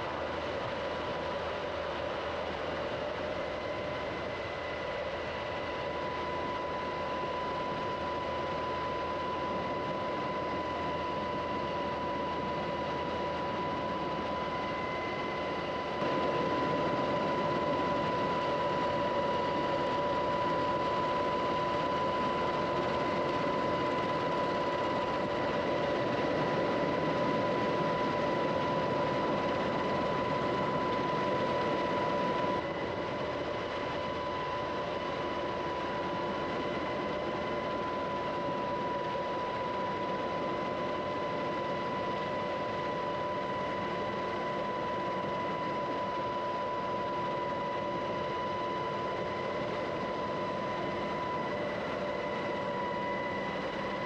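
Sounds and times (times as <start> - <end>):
aircraft engine whine: 0.0 - 54.0.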